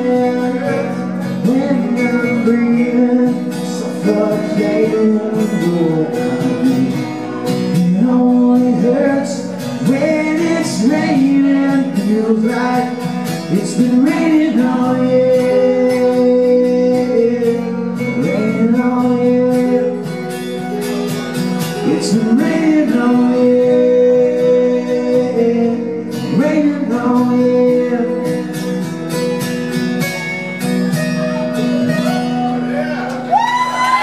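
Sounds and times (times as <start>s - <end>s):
acoustic guitars playing: 0.0s - 34.0s.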